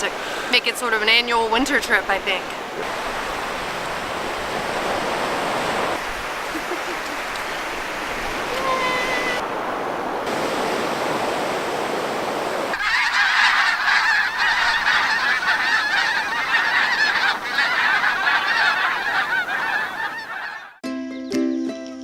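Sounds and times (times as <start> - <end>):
geese honking: 0.0 - 9.6, 12.6 - 20.8
surf: 0.0 - 20.4.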